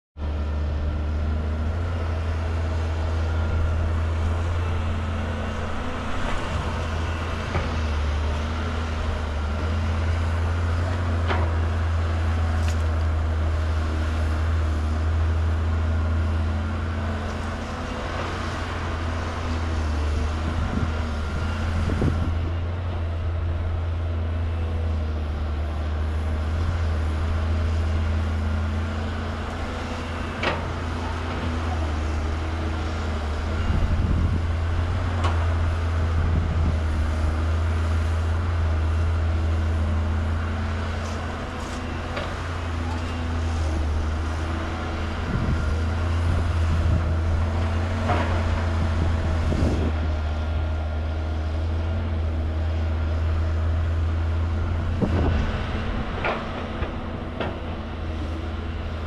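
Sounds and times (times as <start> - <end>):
excavator engine drone: 0.2 - 59.0.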